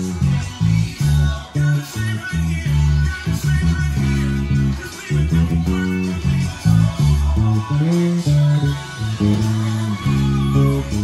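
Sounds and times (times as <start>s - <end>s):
electric bass notes: 0.0s - 11.0s.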